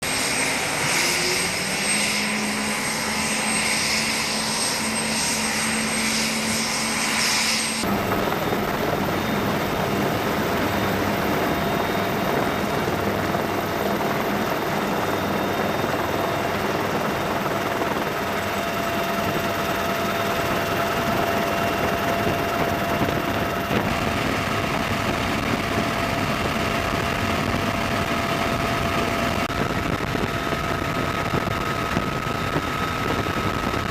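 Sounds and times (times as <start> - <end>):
helicopter turbine and rotor: 0.0 - 33.9.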